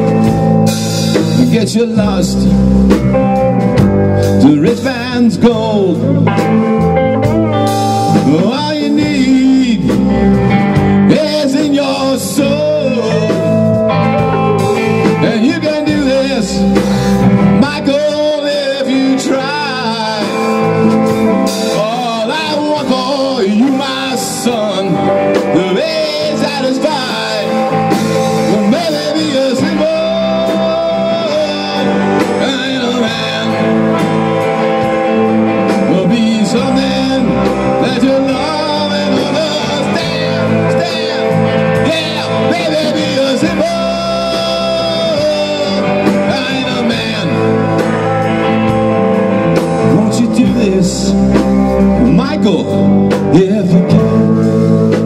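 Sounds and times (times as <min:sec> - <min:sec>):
lead guitar line bending: 0:00.0 - 0:55.0
live rock band playing: 0:00.0 - 0:55.0.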